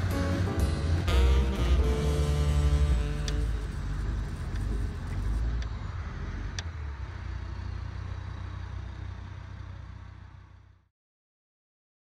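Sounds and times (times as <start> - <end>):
vehicle engine running: 0.0 - 10.9.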